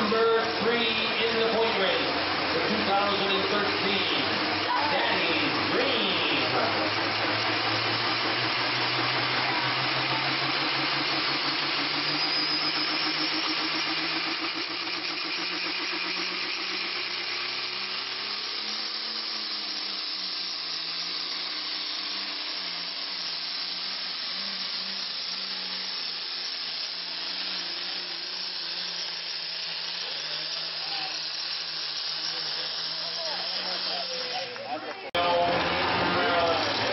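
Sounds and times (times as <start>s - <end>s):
diesel tractor engine under load: 0.0s - 36.9s.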